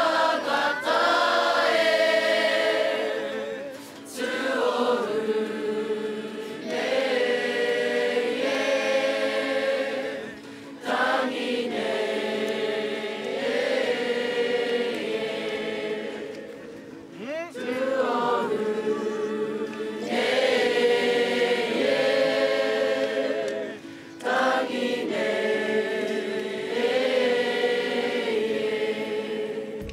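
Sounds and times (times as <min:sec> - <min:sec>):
group singing together: 0:00.0 - 0:29.9.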